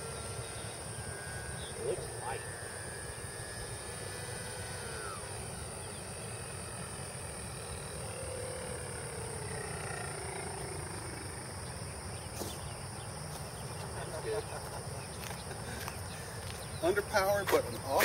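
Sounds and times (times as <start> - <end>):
model plane electric motor whine: 0.0 - 14.4, 15.1 - 18.0.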